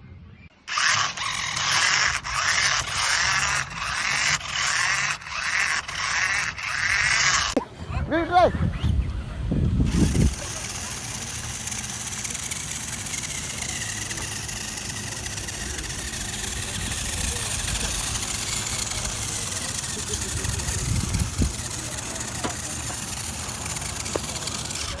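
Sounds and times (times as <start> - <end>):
rc car running: 0.6 - 25.0.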